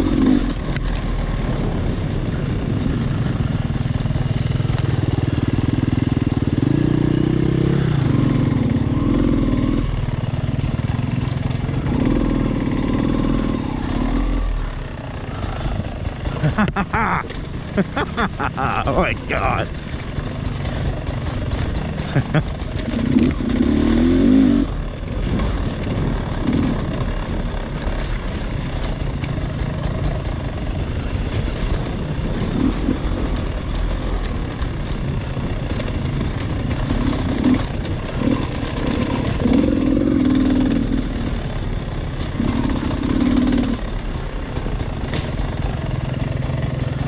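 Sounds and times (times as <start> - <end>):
clatter: 0.0 - 18.6, 19.6 - 47.0
dirt bike engine: 0.0 - 47.0.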